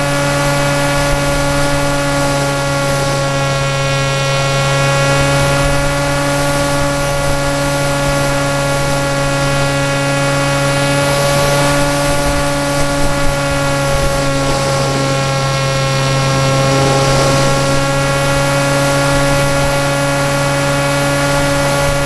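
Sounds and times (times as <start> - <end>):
electric motor and propeller buzzing: 0.0 - 22.0.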